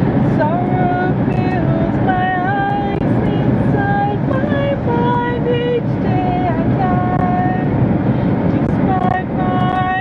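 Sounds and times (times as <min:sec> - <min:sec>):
road rumble inside a car: 0:00.0 - 0:10.0.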